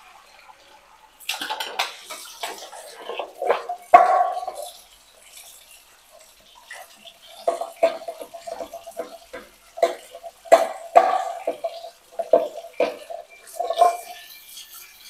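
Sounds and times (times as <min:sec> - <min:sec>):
tap water running into sink: 0:00.0 - 0:15.0
water splashing: 0:01.4 - 0:14.2
sponge scrubbing a pot: 0:02.0 - 0:15.0.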